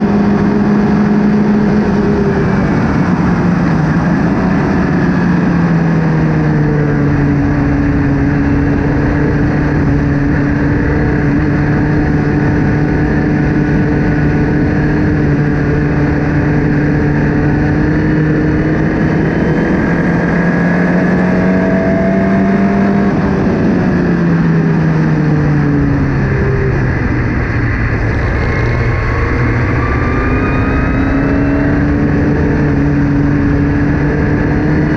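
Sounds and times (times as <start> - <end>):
race car engine running hard: 0.0 - 34.9.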